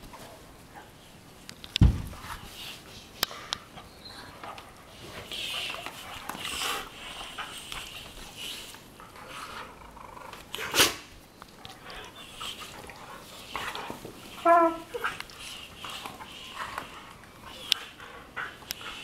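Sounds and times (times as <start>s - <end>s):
breathy dog noises: 2.4s - 11.0s, 11.6s - 19.0s.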